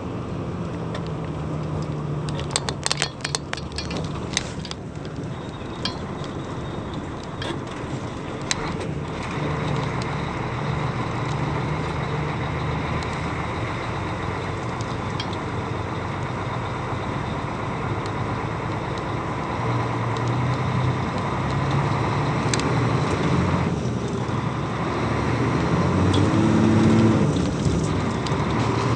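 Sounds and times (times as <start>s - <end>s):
truck diesel engine under load: 0.0s - 28.9s.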